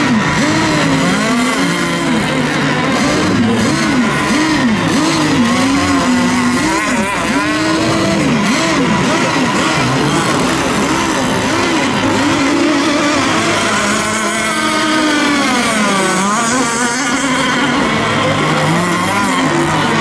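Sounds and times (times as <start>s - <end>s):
racing boat engines whining: 0.0s - 20.0s.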